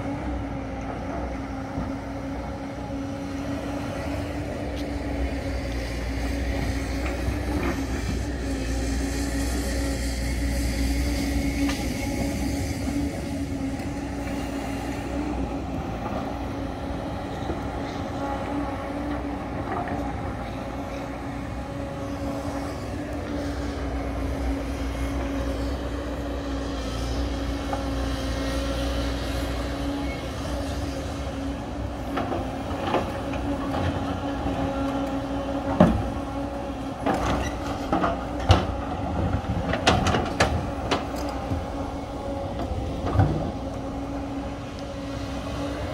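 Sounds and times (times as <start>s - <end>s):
excavator diesel engine droning: 0.0s - 45.9s.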